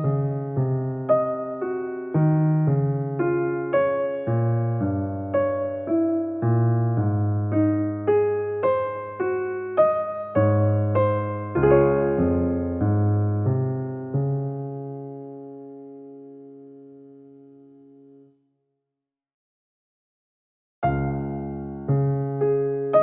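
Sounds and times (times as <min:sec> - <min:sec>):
slow solo piano: 0:00.0 - 0:18.4, 0:20.8 - 0:23.0.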